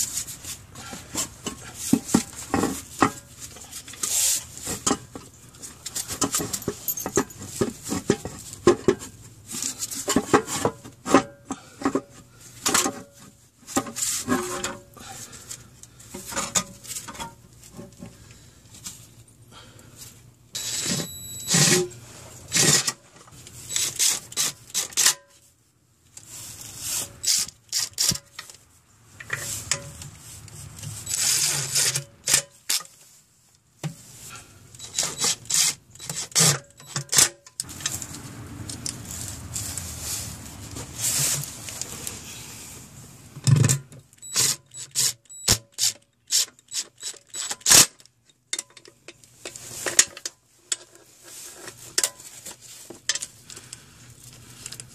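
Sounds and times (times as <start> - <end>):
tools scraping and clicking on metal: 0.0 - 18.3, 20.6 - 25.4, 26.9 - 28.6, 29.2 - 33.0, 34.3 - 39.9, 43.5 - 54.9.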